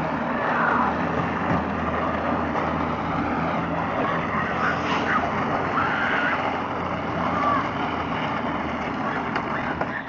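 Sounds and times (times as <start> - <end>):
wheels rolling over asphalt: 0.0 - 10.0.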